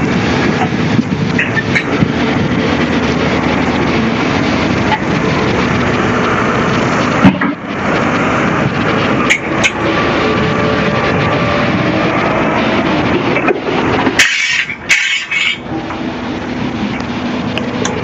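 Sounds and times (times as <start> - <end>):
pump engine running: 0.0 - 18.0.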